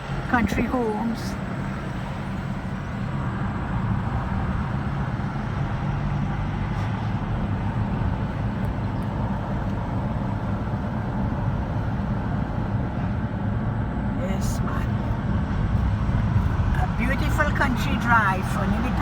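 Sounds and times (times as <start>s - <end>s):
car engine hum: 0.0s - 19.0s
tyre road noise: 0.0s - 19.0s.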